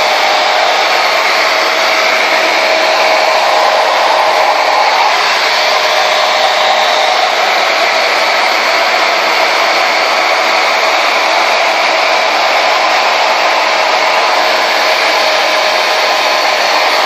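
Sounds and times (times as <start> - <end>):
blow dryer running: 0.0 - 17.0.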